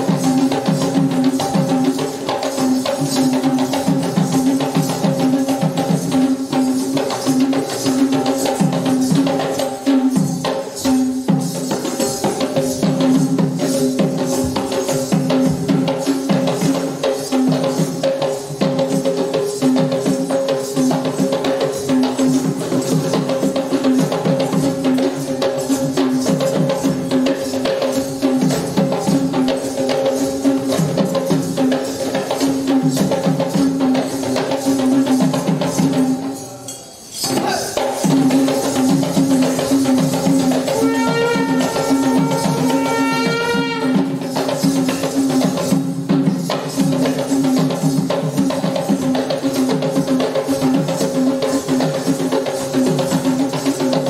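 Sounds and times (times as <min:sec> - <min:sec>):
double-headed drum fast rhythm: 0:00.0 - 0:36.4, 0:37.2 - 0:54.0.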